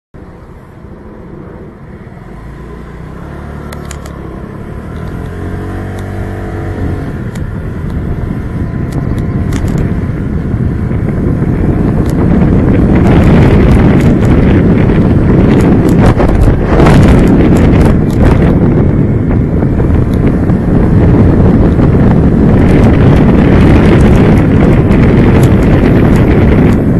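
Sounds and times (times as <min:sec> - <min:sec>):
wind buffeting microphone: 0:00.2 - 0:26.9
motorcycle engine running: 0:00.8 - 0:26.9.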